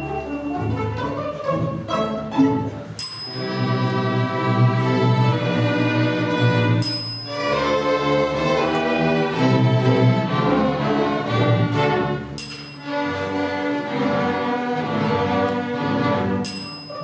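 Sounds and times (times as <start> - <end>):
string orchestra playing: 0.0 - 17.0.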